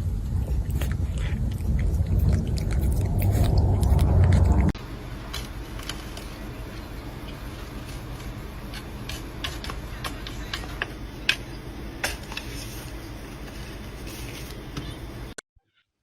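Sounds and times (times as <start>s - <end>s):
low steady hum: 0.0s - 15.4s.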